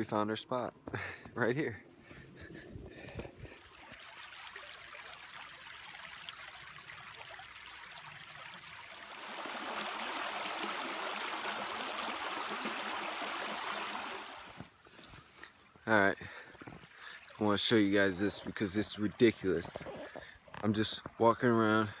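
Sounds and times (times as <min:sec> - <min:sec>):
creek water flowing: 0:01.9 - 0:22.0.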